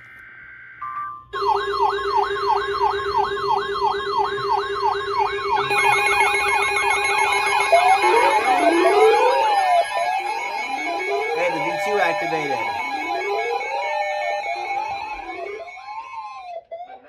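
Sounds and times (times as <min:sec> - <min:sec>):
electronic sirens yelping: 0:00.0 - 0:17.0
steady siren tone: 0:00.0 - 0:17.0.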